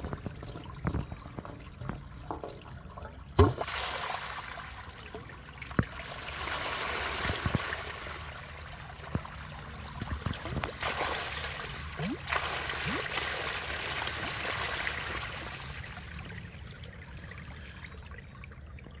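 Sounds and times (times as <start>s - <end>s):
water pouring from pipe: 0.0s - 19.0s
water splashes: 0.0s - 19.0s.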